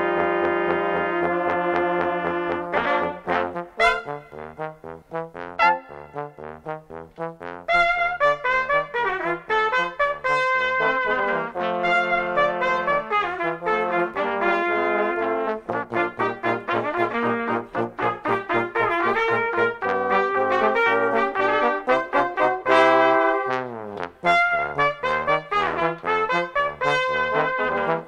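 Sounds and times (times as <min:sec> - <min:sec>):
brass quintet playing: 0:00.0 - 0:28.0.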